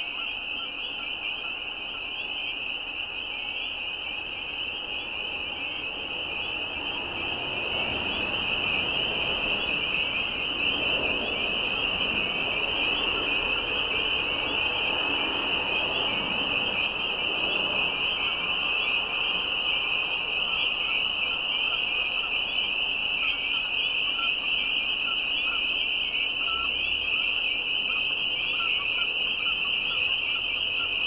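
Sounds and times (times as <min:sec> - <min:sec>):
frogs peeping in chorus: 0:00.0 - 0:31.0.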